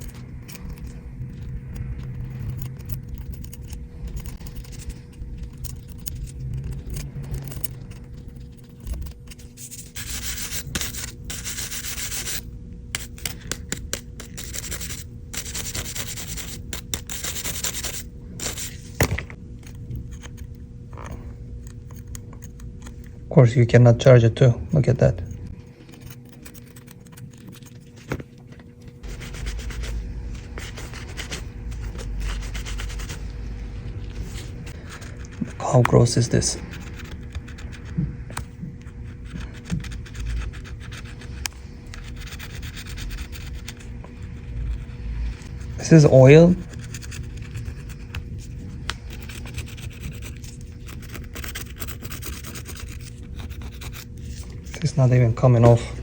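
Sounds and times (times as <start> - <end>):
tool scraping grime off phone: 0.0 - 23.2, 25.1 - 55.9.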